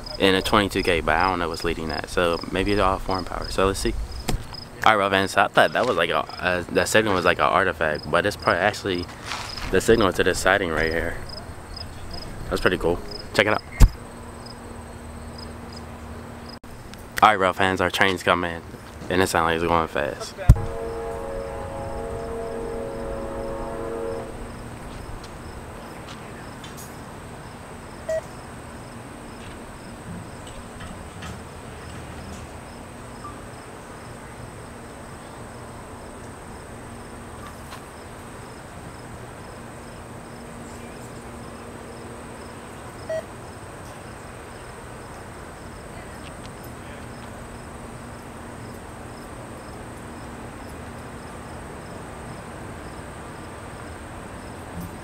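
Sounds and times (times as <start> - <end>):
crickets chirring: 0.0 - 16.6, 20.5 - 55.0
distant train hum: 0.0 - 55.0.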